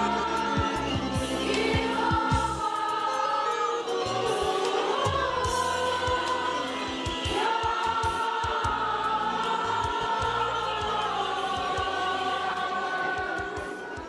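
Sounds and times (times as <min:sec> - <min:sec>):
choir singing a slow chant: 0:00.0 - 0:14.0.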